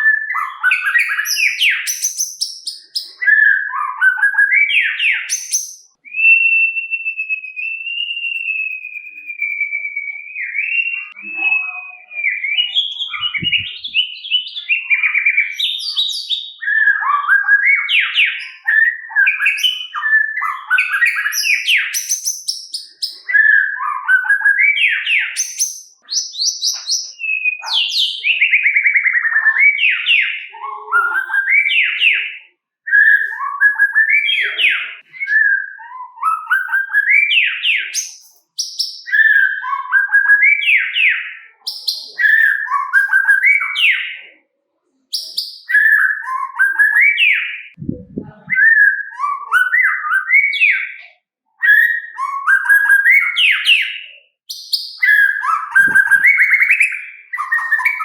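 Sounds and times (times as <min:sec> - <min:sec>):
bird singing whistles and trills: 0:00.0 - 0:44.4, 0:45.1 - 0:58.0.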